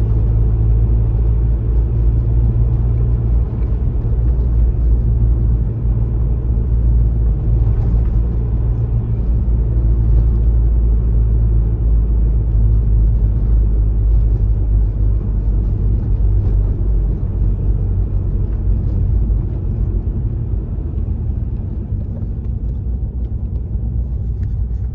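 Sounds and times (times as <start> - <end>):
car driving rumble from inside: 0.0 - 24.9.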